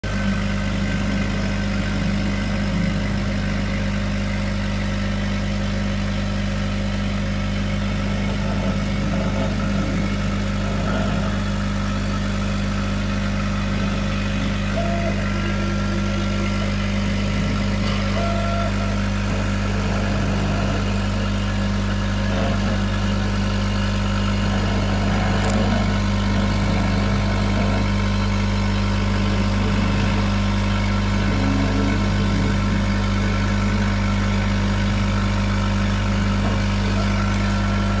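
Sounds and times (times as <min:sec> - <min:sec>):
laser cutter humming: 0:00.0 - 0:38.0.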